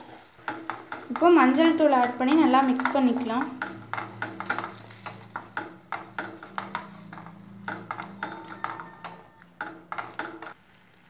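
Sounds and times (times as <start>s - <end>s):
wooden spatula scraping metal pan: 0.0s - 10.6s.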